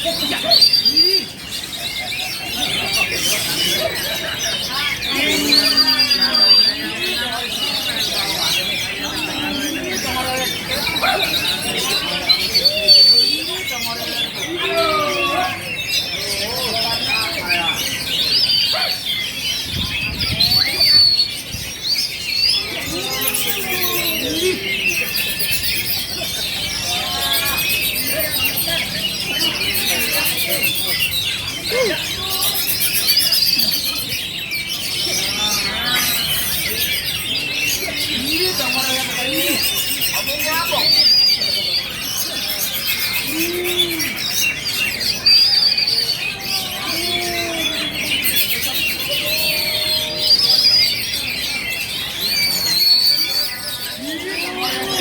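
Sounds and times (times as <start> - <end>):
birds singing chirps and whistles: 0.0 - 55.0.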